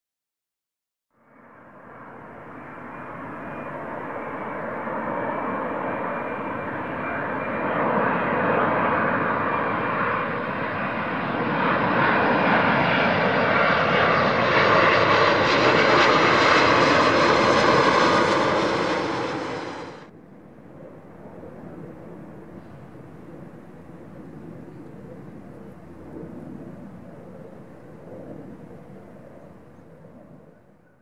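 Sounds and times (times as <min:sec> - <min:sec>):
jet engines rumbling with whine: 0:01.2 - 0:31.0.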